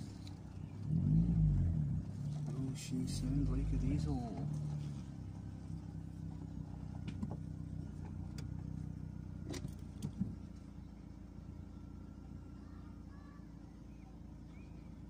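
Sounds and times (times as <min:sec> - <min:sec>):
car engine idling with ticking: 0:00.0 - 0:15.0.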